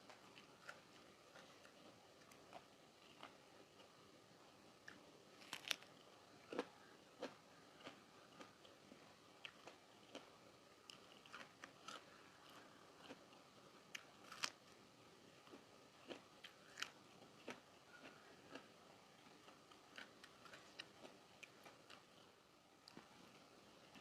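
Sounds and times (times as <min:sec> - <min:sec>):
chewing crunchy raw vegetables: 0:00.0 - 0:04.0, 0:04.8 - 0:14.8, 0:15.4 - 0:23.1.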